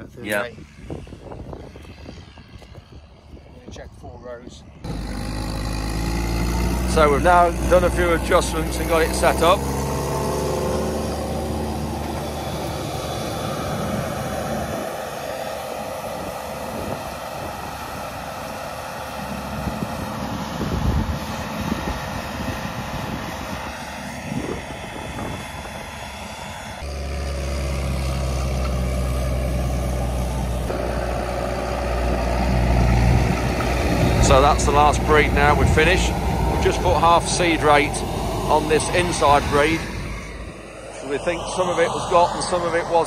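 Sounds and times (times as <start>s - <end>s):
tractor engine running: 4.8s - 43.0s.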